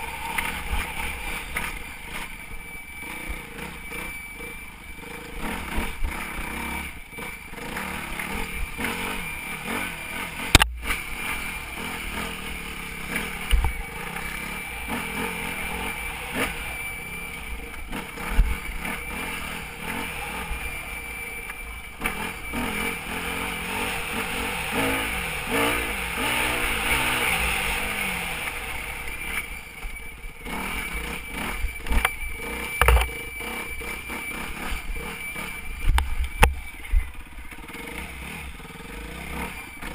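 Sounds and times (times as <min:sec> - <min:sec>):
motorcycle engine revving: 0:00.0 - 0:39.9
thin high whine: 0:00.0 - 0:39.9.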